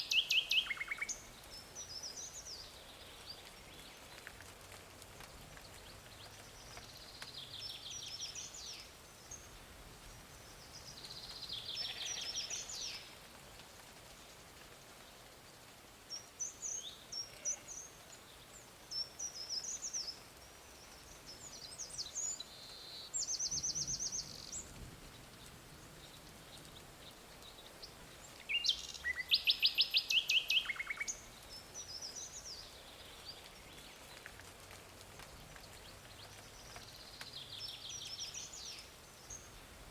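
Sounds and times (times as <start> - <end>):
songbirds singing: 0.0 - 13.3, 14.1 - 39.9
faint steady hiss: 0.0 - 39.9.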